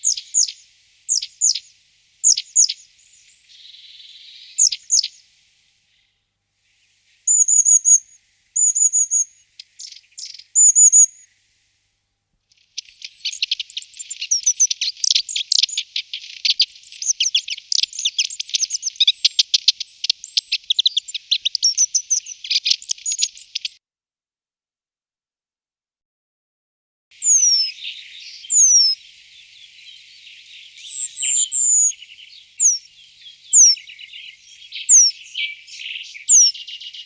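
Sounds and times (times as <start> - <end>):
small songbird singing: 0.0 - 11.6, 12.5 - 23.8, 27.1 - 37.0.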